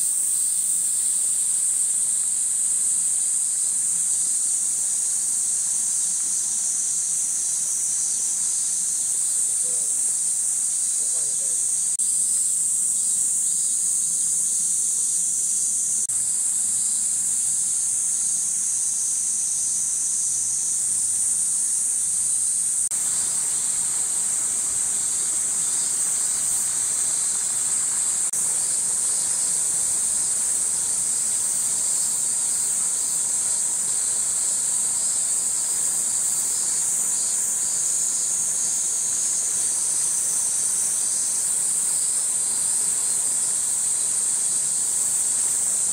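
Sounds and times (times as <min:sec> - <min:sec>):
cicadas buzzing: 0:00.0 - 0:45.9.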